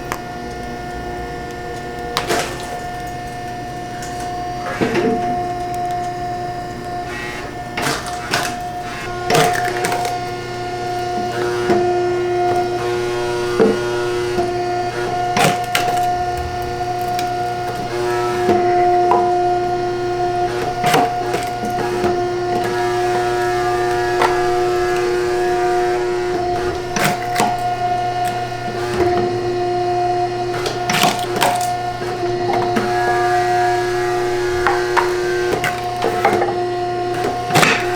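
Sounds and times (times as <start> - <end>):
machine whine: 0.0 - 37.9.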